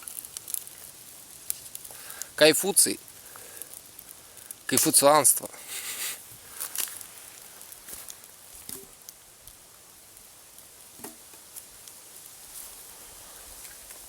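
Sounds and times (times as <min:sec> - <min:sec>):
campfire crackling: 0:00.0 - 0:14.0
faint hiss: 0:00.0 - 0:14.0.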